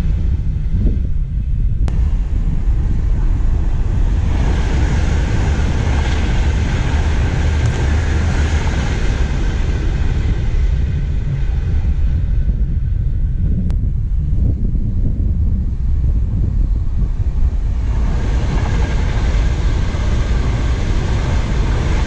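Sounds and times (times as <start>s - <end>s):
wind buffeting microphone: 0.0s - 22.0s
passenger train passing: 1.4s - 13.5s, 15.7s - 22.0s.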